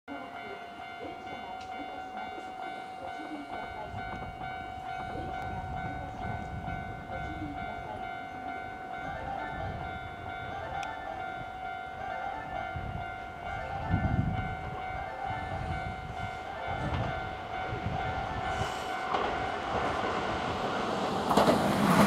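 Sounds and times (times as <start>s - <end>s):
electric train rumbling: 0.1s - 22.0s
level-crossing alarm ringing: 0.1s - 22.0s.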